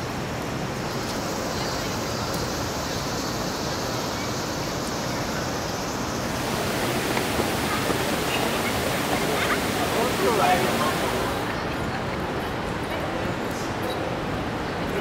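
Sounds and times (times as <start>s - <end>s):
outdoor background rush: 0.0s - 15.0s.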